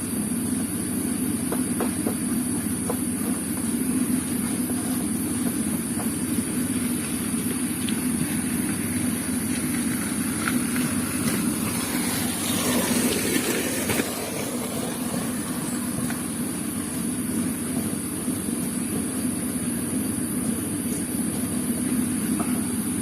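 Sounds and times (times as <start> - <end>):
rough loud engine noise: 0.0 - 23.0
small engine humming and whining: 0.0 - 23.0.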